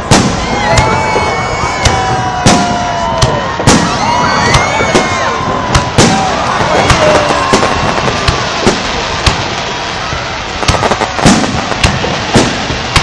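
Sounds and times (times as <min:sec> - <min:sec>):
fireworks bangs: 0:00.0 - 0:13.0
onlookers' voices: 0:00.0 - 0:13.0.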